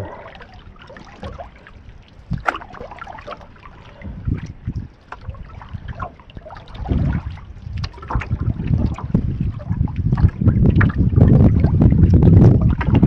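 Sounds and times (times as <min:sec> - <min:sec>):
small waves lapping against hull: 0:00.0 - 0:13.0
wind buffeting microphone: 0:00.0 - 0:13.0.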